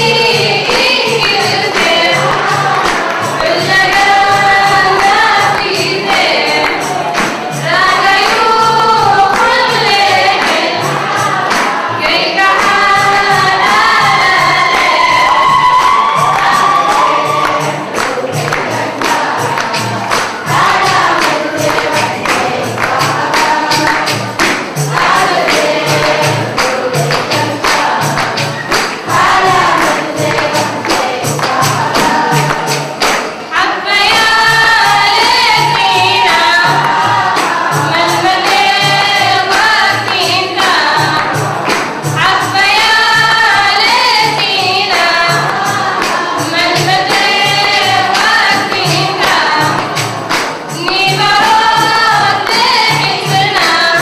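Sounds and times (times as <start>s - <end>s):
girls singing together: 0.0s - 54.0s
percussion beat: 0.0s - 54.0s.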